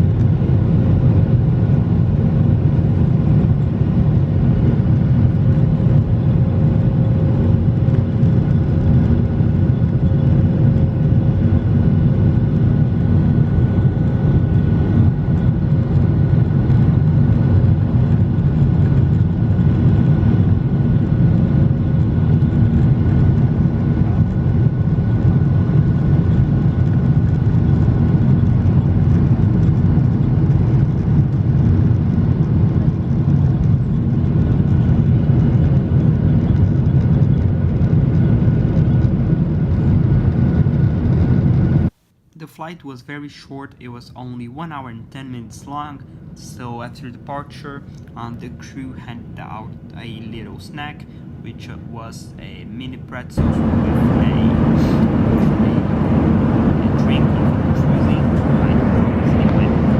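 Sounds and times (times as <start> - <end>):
jet engine roar in cabin: 0.0 - 59.9.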